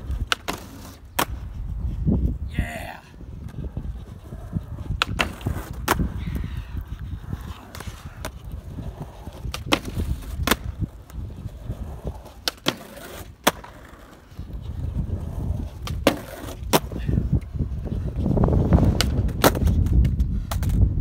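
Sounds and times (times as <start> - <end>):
skateboard clacks: 0.0 - 1.4, 3.4 - 21.0
skateboard rolling on concrete: 0.0 - 21.0.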